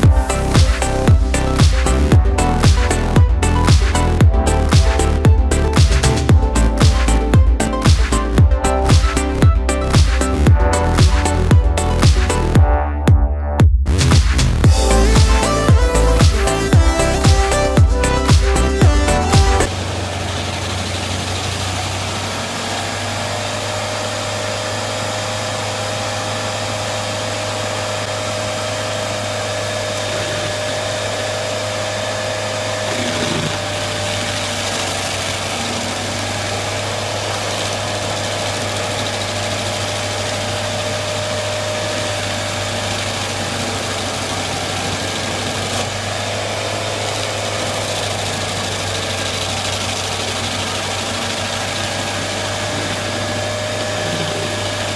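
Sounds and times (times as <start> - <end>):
machine engine running: 0.0 - 12.8, 13.9 - 54.9.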